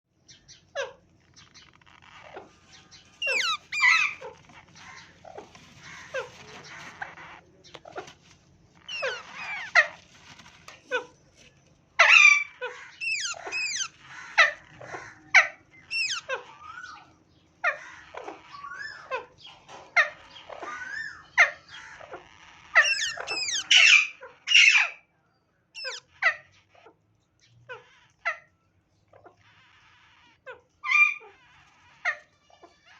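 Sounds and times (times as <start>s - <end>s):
bird chicks begging squeals: 0.3s - 11.1s, 12.0s - 25.1s, 25.8s - 27.0s, 27.6s - 32.9s.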